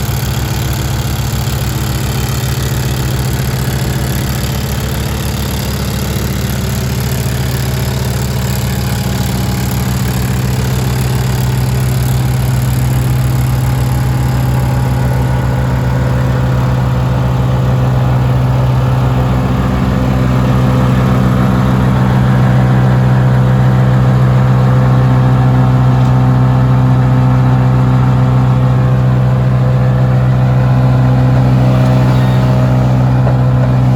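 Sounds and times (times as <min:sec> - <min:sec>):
wood chipper engine humming: 0:00.0 - 0:33.9.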